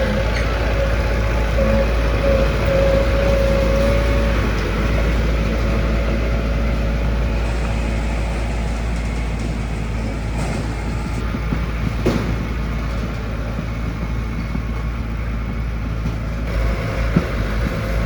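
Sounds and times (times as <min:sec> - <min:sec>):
diesel engine rumbling: 0:00.0 - 0:18.0
high engine whine: 0:00.0 - 0:18.0.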